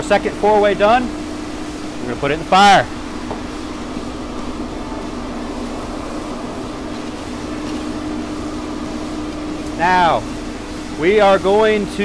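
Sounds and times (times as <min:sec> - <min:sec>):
forge roaring: 0:00.0 - 0:12.0.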